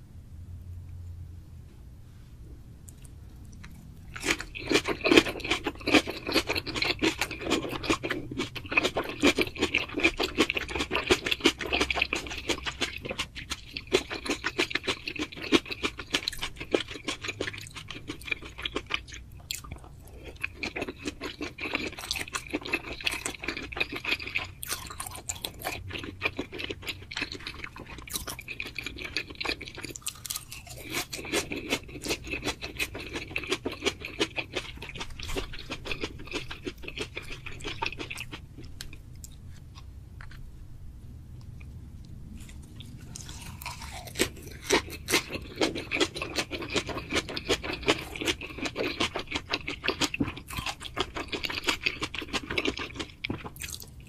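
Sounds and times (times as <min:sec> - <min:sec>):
close chewing of food: 0:02.9 - 0:40.4, 0:41.4 - 0:54.0.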